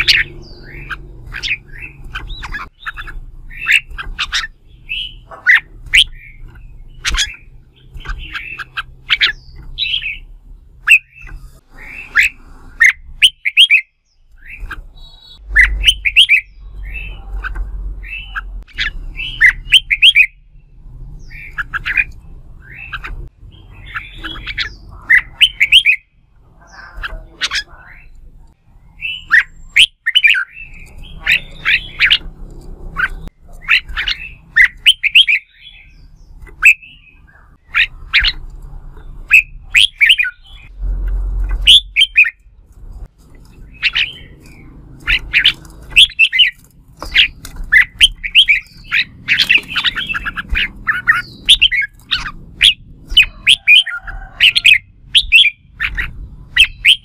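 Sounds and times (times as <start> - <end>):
birds singing sharp whistled notes: 0.0 - 38.4, 39.0 - 42.6, 43.5 - 57.0.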